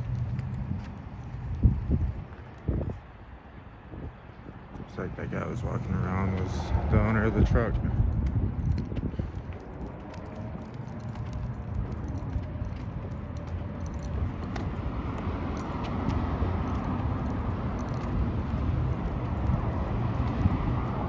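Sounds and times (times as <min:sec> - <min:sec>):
vehicle approaching: 0:00.0 - 0:02.7, 0:04.8 - 0:21.0
road traffic rumble: 0:00.0 - 0:21.0.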